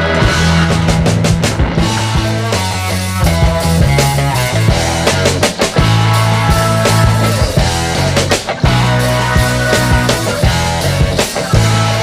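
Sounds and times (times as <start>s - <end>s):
electric guitar: 0.0s - 12.0s
heavy bass line: 0.0s - 12.0s
steady drum beat: 0.0s - 12.0s.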